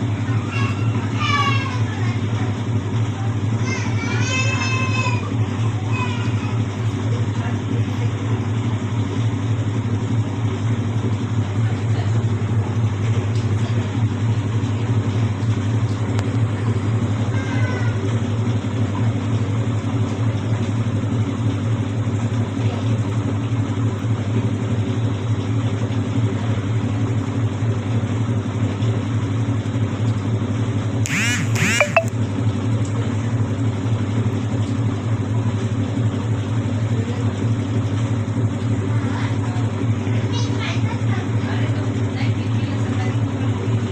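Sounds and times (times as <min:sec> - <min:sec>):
washing machine motor humming: 0:00.0 - 0:43.9.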